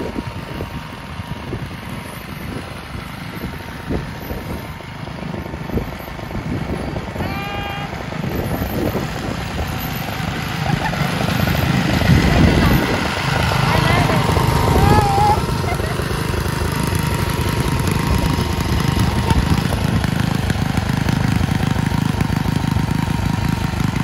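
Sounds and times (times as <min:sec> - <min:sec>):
ride-on lawn mower engine: 0:00.0 - 0:24.0.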